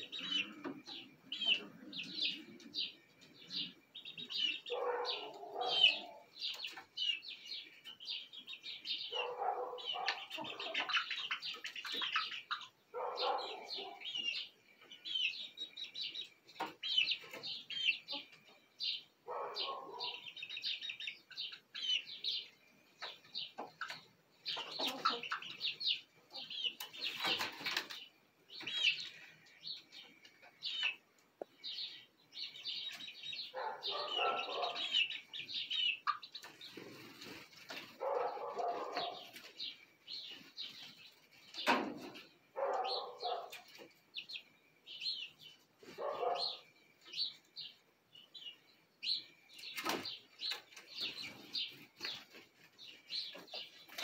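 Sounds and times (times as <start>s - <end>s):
chicks peeping and chirping: 0.0s - 54.0s.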